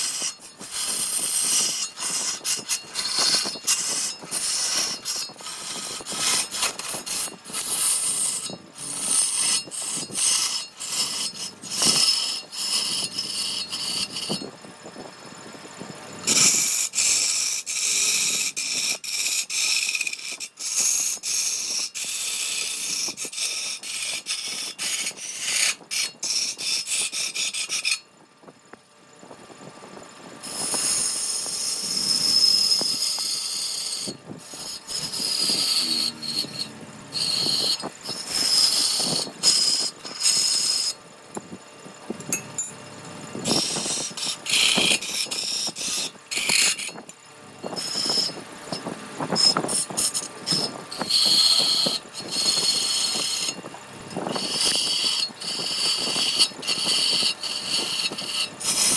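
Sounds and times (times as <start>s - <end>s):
power tool cutting wood: 0.0s - 28.0s, 30.4s - 58.9s.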